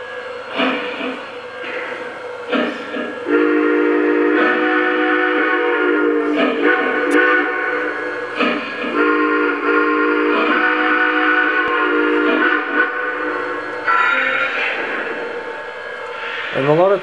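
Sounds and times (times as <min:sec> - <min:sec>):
steam whistle blasts: 0:01.6 - 0:16.6.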